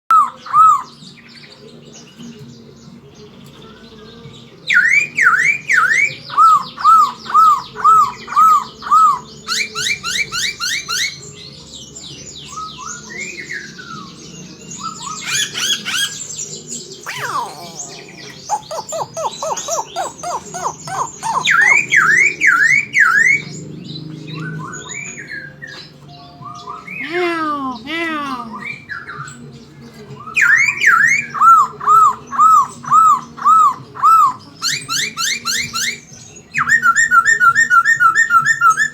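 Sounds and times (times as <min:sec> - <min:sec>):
bird singing whistled song: 0:00.1 - 0:03.6, 0:04.3 - 0:27.0, 0:28.6 - 0:38.9.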